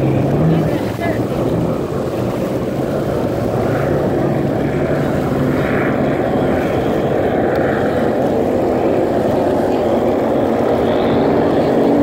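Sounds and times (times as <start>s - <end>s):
speedboat engines droning: 0.0s - 12.0s.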